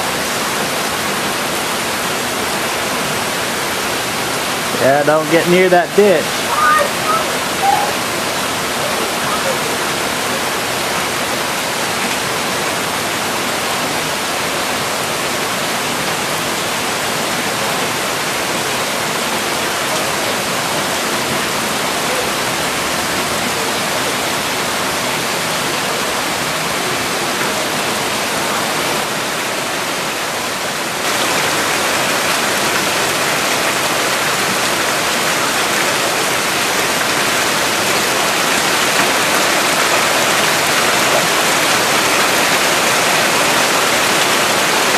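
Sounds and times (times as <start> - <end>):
heavy rain: 0.0 - 44.9
rushing floodwater: 0.0 - 44.9.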